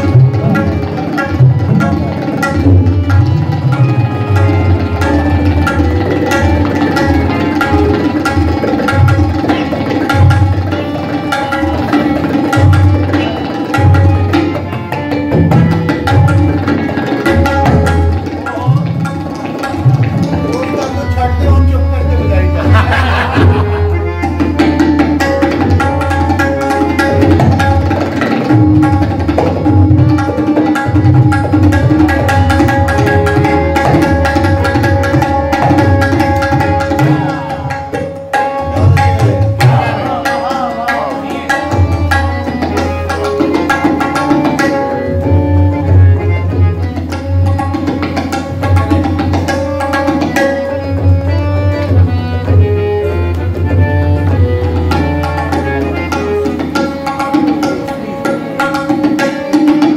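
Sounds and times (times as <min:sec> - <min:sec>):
melodic accompaniment: 0:00.0 - 0:59.9
tabla drumming: 0:00.0 - 0:59.9.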